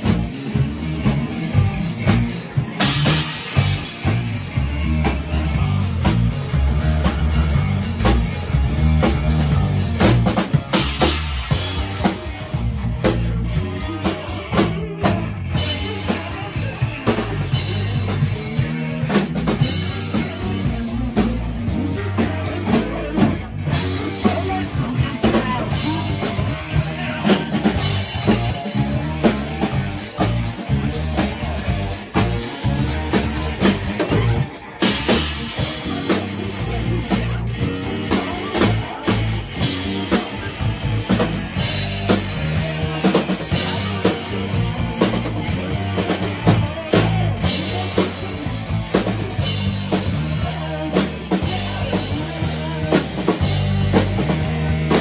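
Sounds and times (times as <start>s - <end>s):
loud drums: 0.0s - 55.0s
rock band playing: 0.0s - 55.0s.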